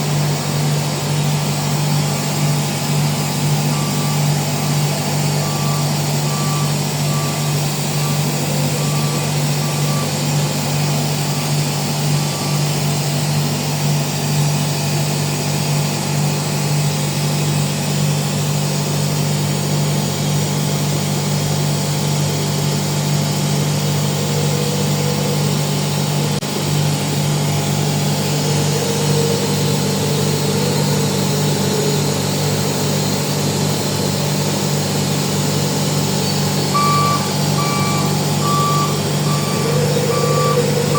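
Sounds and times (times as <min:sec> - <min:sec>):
large machine humming: 0:00.0 - 0:40.9.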